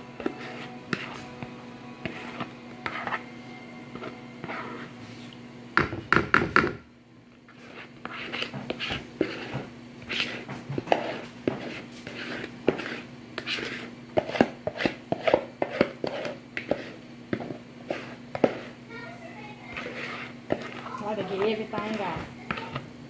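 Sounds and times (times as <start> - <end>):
mixing bowl scraping: 0.0 - 6.7, 7.4 - 23.0
steady low hum: 0.0 - 23.0.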